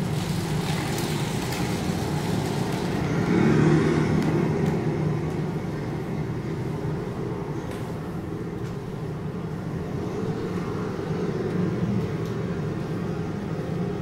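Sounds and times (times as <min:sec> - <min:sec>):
street traffic over loudspeakers: 0:00.0 - 0:14.0.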